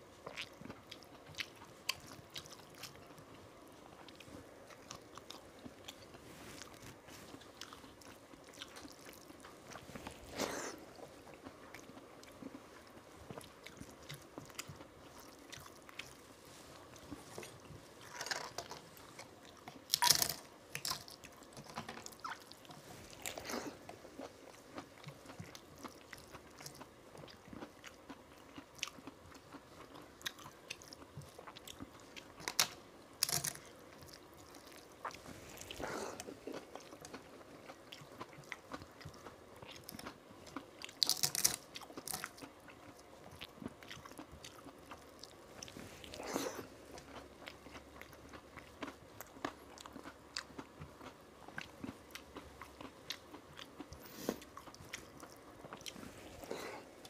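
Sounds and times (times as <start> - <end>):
chewing and mouth sounds: 0.0 - 57.0
crunches of fried papad: 5.0 - 57.0.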